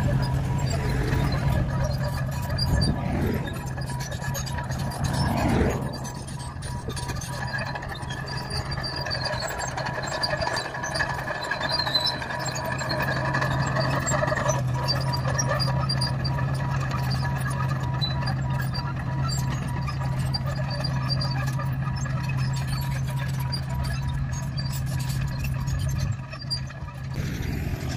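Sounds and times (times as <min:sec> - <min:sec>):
bulldozer diesel engine running: 0:00.0 - 0:27.9.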